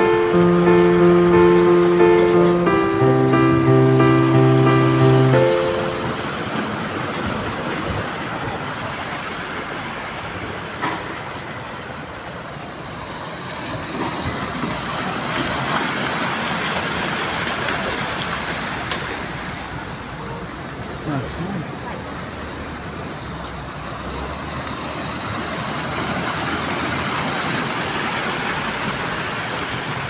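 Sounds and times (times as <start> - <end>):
road traffic rushing: 0.0 - 30.0.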